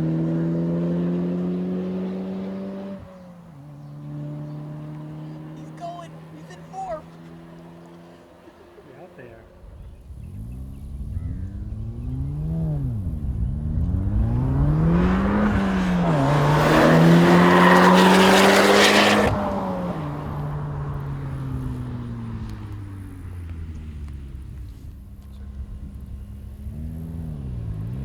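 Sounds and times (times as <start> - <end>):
car accelerating past: 0.0 - 28.0.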